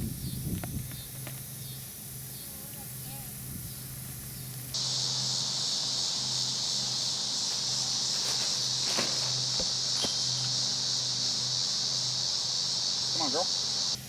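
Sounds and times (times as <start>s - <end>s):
high-pitched insect buzzing: 1.6s - 14.0s.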